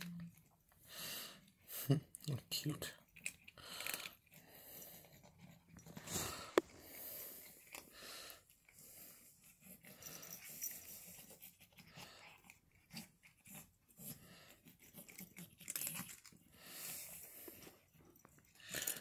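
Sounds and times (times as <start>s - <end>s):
cats crunching food: 0.0s - 19.0s.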